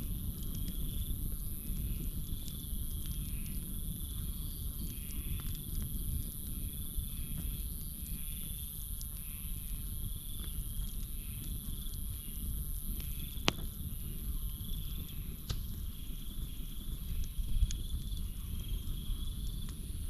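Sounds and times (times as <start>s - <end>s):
campfire crackling and popping: 0.0s - 20.0s
high-pitched insect chorus: 0.0s - 20.0s.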